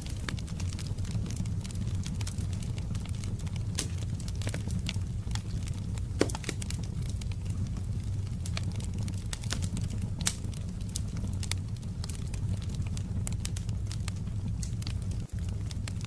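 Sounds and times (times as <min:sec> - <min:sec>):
low rumble: 0:00.0 - 0:16.0
wood fire crackling: 0:00.0 - 0:16.0.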